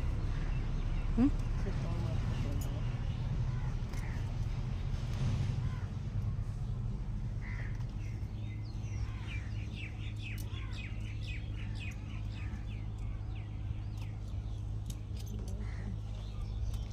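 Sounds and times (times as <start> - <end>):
small birds chirping: 0.0 - 16.9
steady low hum: 0.0 - 16.9.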